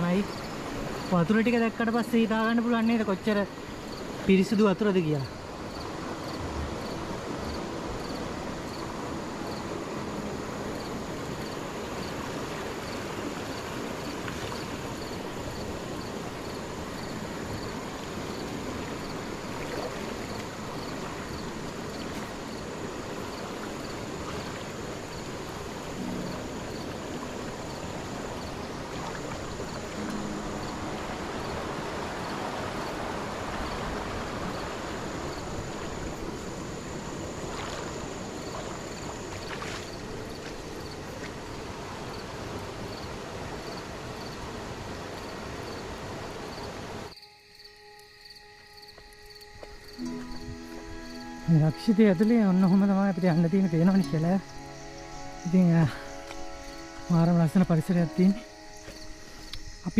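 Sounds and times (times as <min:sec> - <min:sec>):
faint high insect chirp: 0:00.0 - 0:59.9
stream flowing: 0:00.0 - 0:59.9
thin high insect whine: 0:00.0 - 0:59.9.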